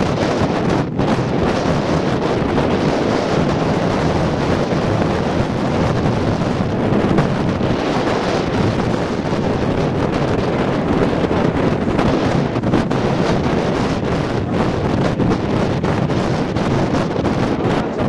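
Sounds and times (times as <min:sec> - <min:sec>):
strong wind roaring: 0:00.0 - 0:18.0.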